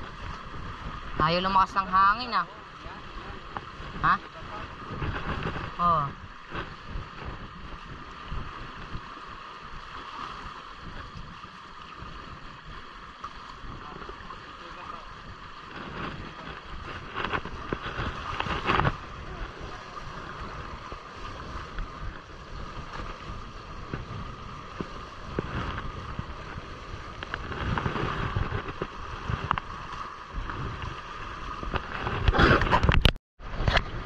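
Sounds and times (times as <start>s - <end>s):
water sloshing against hulls: 0.0s - 34.0s
wind buffeting microphone: 0.0s - 34.0s.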